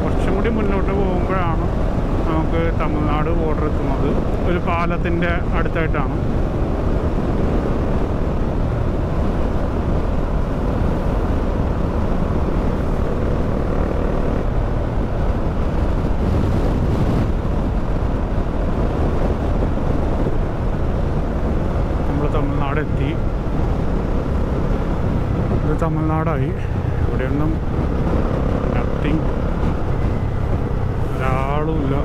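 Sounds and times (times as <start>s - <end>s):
motorcycle engine drone: 0.0s - 32.0s
wind on microphone: 0.0s - 32.0s.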